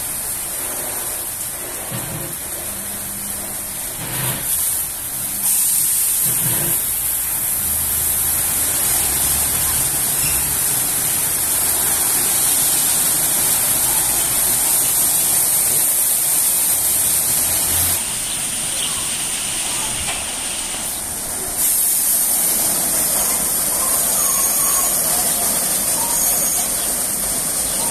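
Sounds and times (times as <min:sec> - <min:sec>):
car wash brushes and spraying water: 0:00.0 - 0:27.9
sharp hiss: 0:00.0 - 0:27.9.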